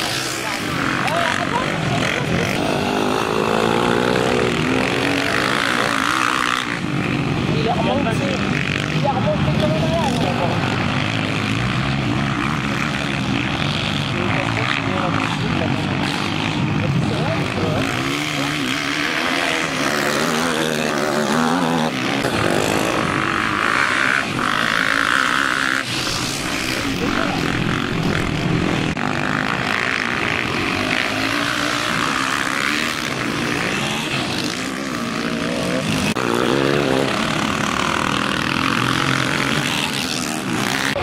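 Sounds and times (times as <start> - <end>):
quad engines revving: 0.0 - 41.0.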